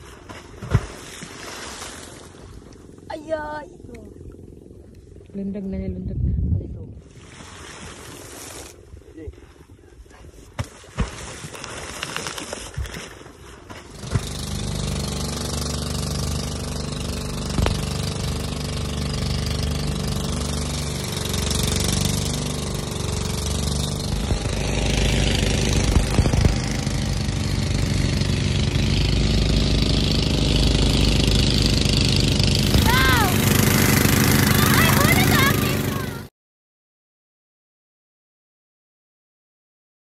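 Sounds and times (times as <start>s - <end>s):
fishing boat engine running: 0.0s - 6.1s, 7.0s - 36.3s.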